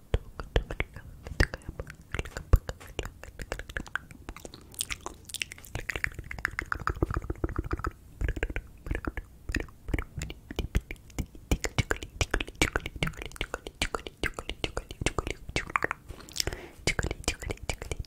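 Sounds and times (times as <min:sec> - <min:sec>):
wet mouth clicks and smacks: 0:00.1 - 0:18.0.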